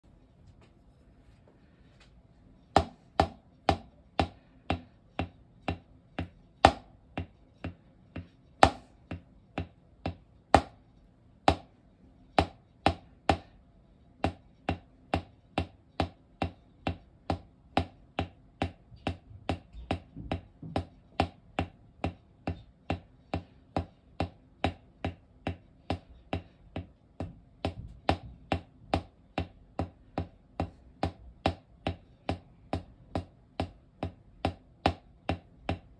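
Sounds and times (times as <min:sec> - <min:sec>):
drumsticks tapping practice pad: 0:02.7 - 0:13.6, 0:14.2 - 0:35.9.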